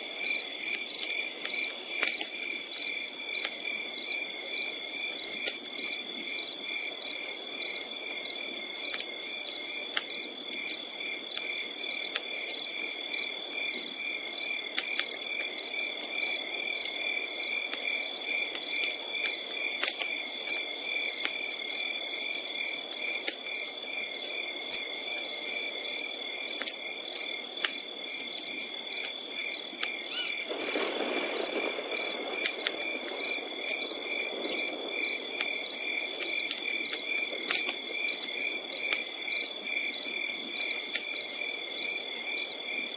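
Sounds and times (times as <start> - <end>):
campfire crackling and popping: 0.0 - 42.9
crickets chirping: 0.0 - 42.9.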